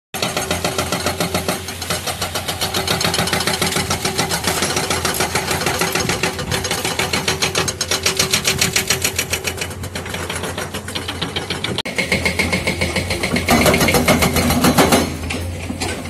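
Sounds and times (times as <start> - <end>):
excavator diesel engine: 0.1 - 16.0
hydraulic breaker hammering rock: 0.2 - 16.0.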